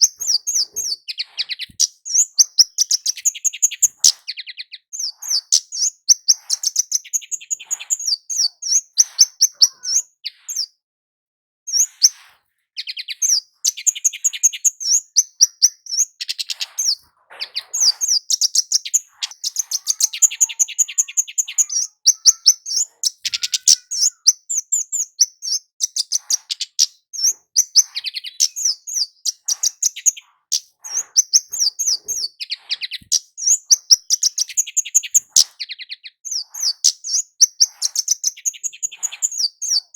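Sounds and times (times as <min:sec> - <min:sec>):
bird chirping and trilling: 0:00.0 - 0:10.8, 0:11.7 - 0:12.2, 0:12.8 - 0:39.9.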